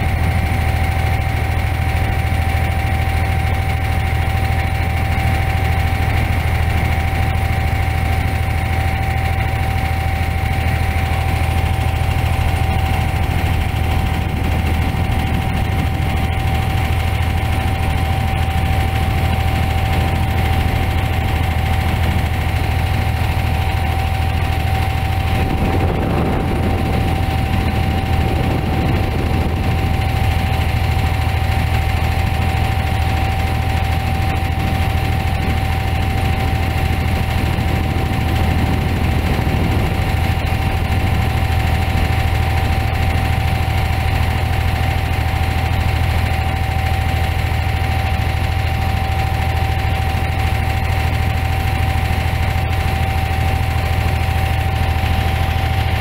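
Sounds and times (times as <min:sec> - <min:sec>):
boat engine drone: 0:00.0 - 0:56.0
thin steady whine: 0:00.0 - 0:56.0.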